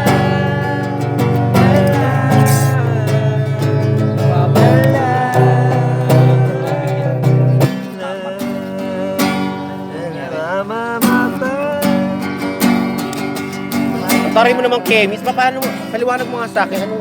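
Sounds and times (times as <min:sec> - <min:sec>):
acoustic guitar: 0:00.0 - 0:17.0
person singing: 0:00.0 - 0:17.0.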